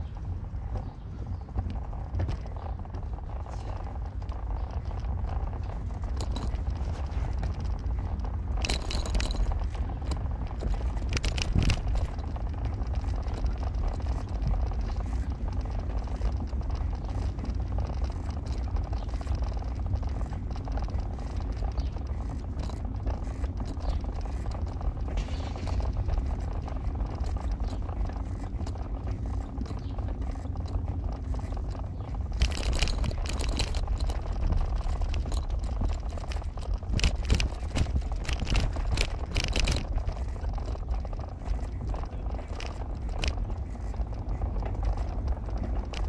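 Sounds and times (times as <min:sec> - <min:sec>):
car engine and road rumble: 0:00.0 - 0:46.0
rattling and clicking: 0:00.0 - 0:46.0.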